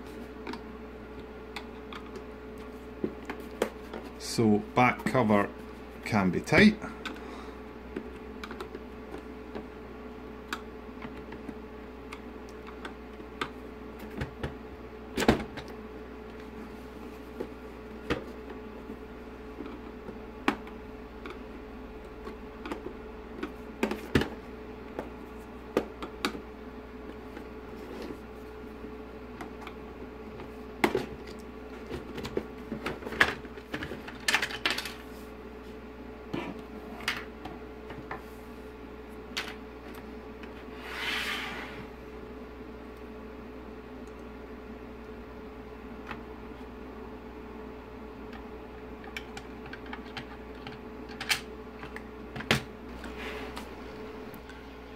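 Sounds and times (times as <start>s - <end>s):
steady hum: 0.0s - 54.9s.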